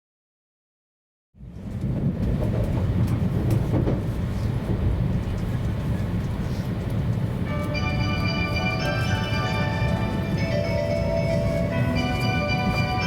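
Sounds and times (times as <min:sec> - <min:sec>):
train cabin rumble: 0:01.4 - 0:13.0.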